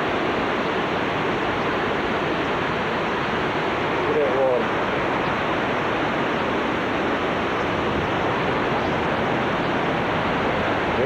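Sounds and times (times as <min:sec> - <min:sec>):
wind and rain rushing: 0:00.0 - 0:11.0.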